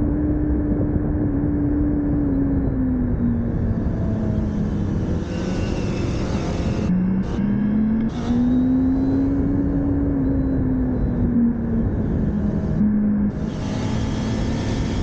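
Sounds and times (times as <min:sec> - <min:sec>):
motorcycle engine revving: 0:00.0 - 0:15.0
wind on microphone: 0:00.0 - 0:15.0.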